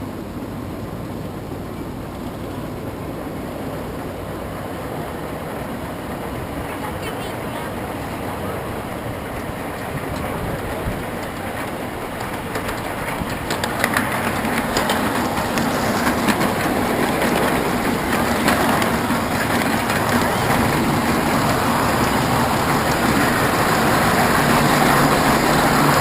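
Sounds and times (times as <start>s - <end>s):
steam train wheels rumbling: 0.0s - 26.0s
wheels clicking over rail joints: 0.0s - 26.0s.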